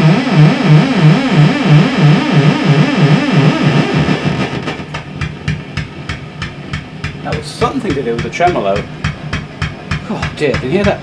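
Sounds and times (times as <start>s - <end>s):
guitar amp warbling tone: 0.0s - 9.0s.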